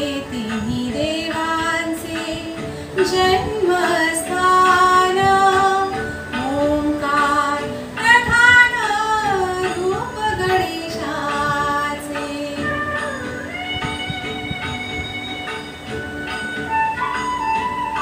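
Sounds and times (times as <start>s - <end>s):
woman singing devotional song: 0.0s - 15.9s.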